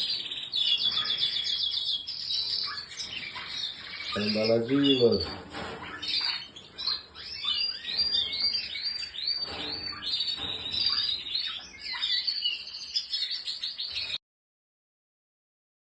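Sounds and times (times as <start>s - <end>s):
canaries singing: 0.0s - 14.2s.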